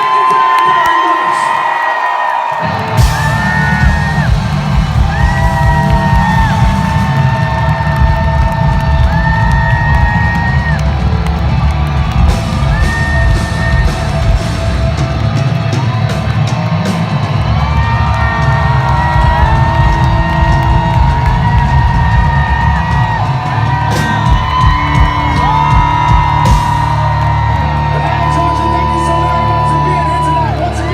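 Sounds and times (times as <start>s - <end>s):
crowd cheering and yelling: 0.0s - 30.9s
live rock music: 2.6s - 30.9s.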